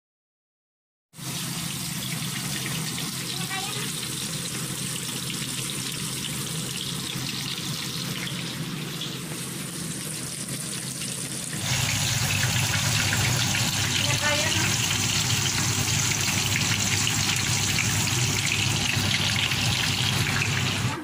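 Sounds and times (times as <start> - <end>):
chicken deep-frying in oil: 1.2 - 21.0.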